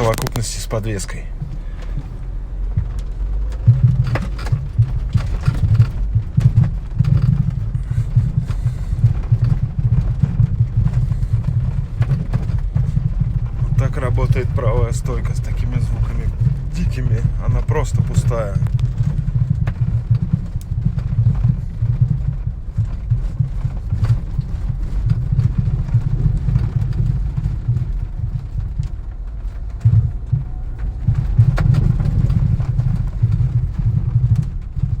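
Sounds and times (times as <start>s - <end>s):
car road rumble: 0.0s - 35.0s
suspension strut knocking: 0.0s - 35.0s.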